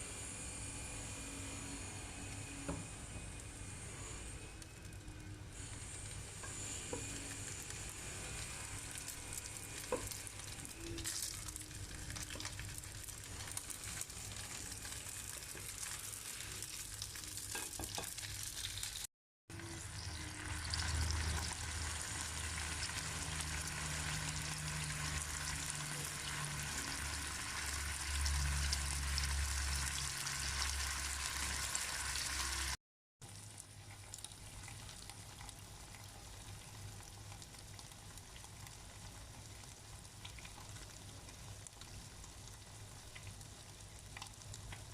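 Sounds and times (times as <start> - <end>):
food sizzling in a pan: 0.1 - 44.9.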